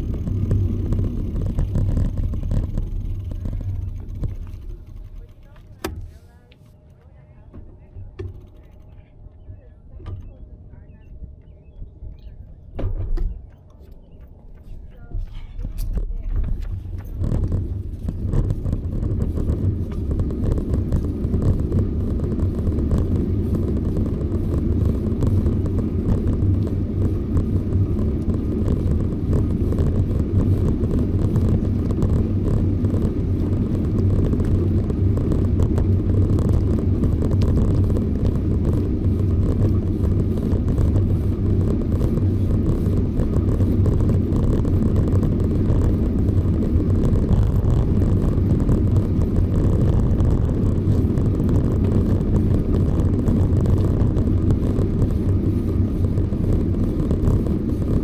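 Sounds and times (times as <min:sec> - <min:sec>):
road noise: 0:00.0 - 0:58.0
wind rumble: 0:00.0 - 0:58.0.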